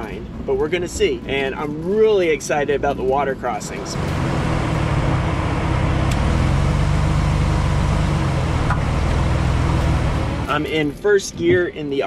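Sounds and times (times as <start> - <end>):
low engine drone: 0.0 - 11.9
road noise: 0.0 - 12.0.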